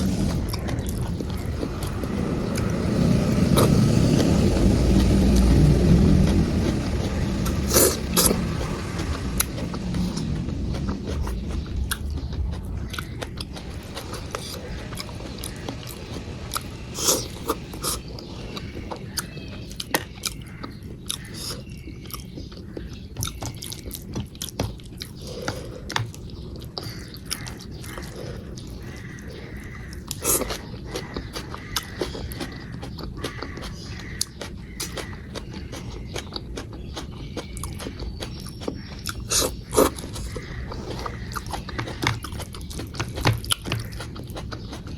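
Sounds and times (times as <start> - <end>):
low steady hum: 0.0 - 44.9
person chewing food: 0.0 - 44.9.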